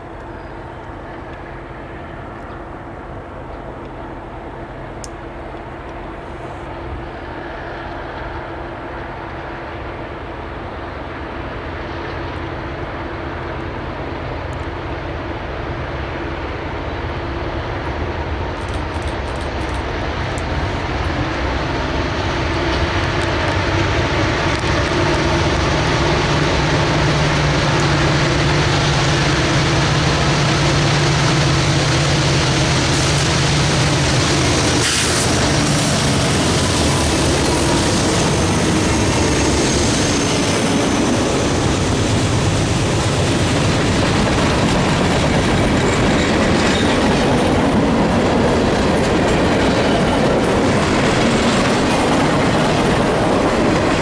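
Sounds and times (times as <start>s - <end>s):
diesel locomotive engine drone: 0.0s - 54.0s
rail noise: 0.0s - 54.0s.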